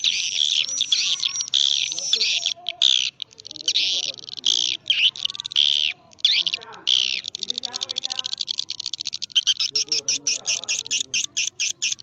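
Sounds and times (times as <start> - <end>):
swiftlets twittering and trilling: 0.0 - 12.0.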